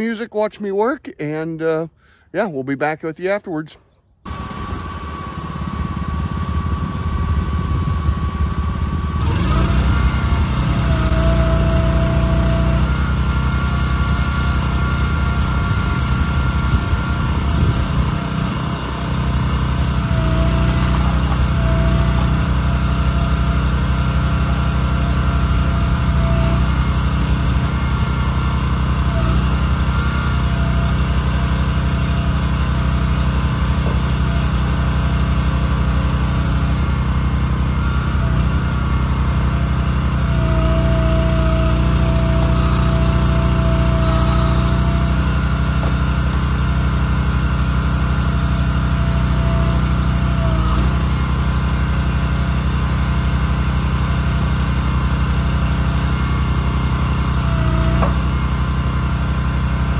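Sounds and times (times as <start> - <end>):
tractor running: 0.0 - 59.9
small gas engine running: 4.3 - 59.9.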